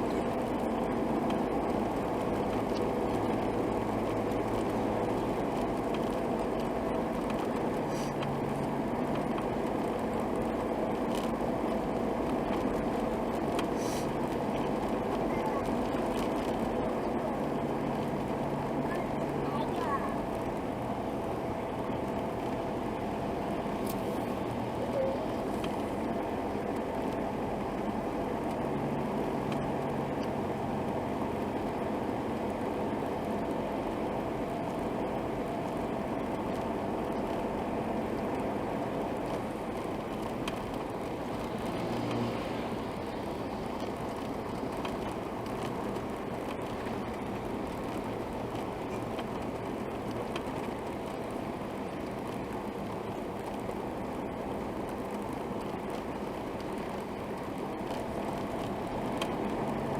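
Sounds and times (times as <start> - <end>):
vehicle noise: 0.0 - 59.9.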